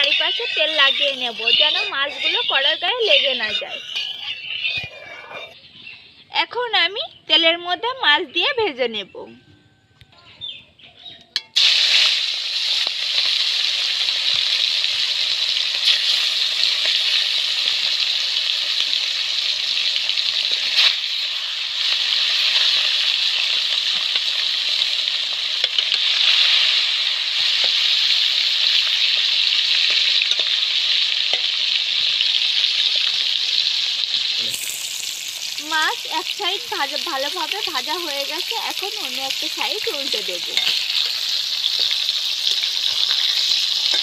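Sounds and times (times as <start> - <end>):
fish frying in sizzling oil: 0.0 - 4.1, 11.4 - 44.0.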